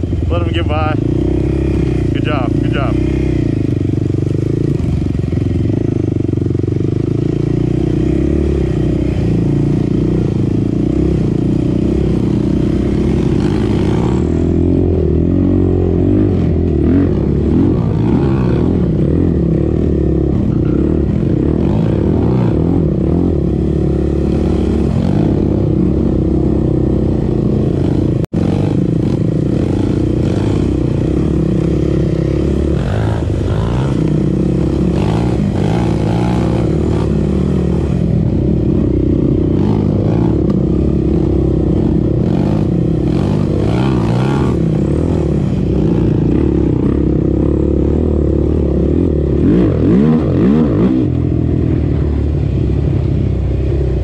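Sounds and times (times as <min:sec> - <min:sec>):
quad engine running: 0:00.0 - 0:54.0.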